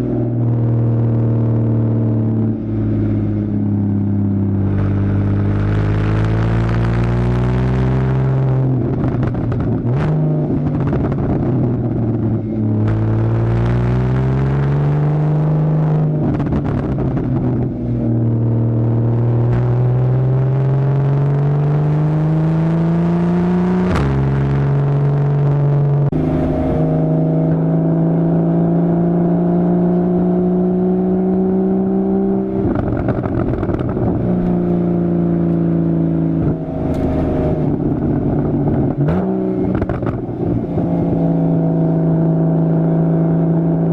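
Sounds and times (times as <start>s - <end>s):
car engine accelerating: 0.0s - 43.9s.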